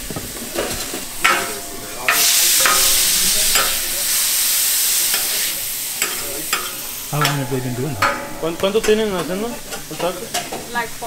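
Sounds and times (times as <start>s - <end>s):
meat sizzling on a griddle: 0.0s - 7.6s, 8.4s - 11.0s.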